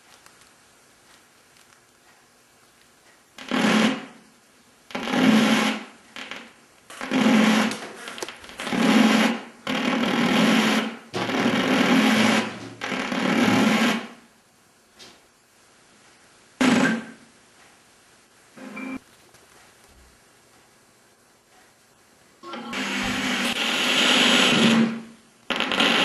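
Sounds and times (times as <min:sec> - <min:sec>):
television static hiss: 0:00.0 - 0:26.0.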